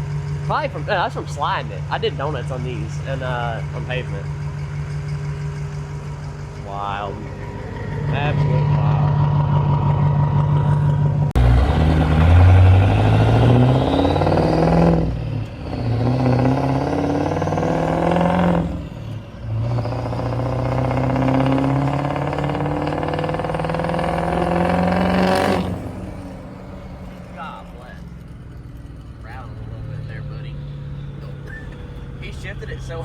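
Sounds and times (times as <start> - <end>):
diesel engine accelerating: 0.0 - 33.0.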